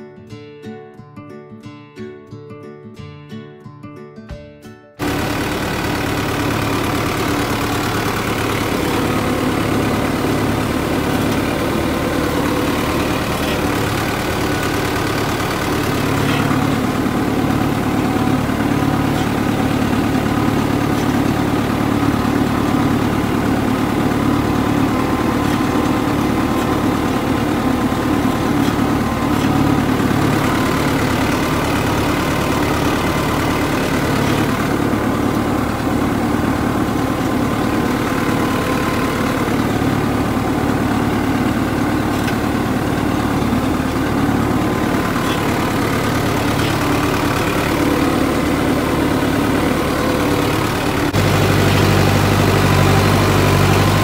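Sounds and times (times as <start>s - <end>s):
tractor engine running steadily: 5.0s - 54.0s.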